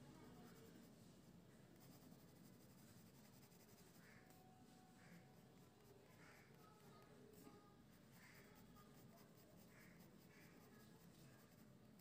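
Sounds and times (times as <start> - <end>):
pencil strokes on paper: 0.1 - 12.0.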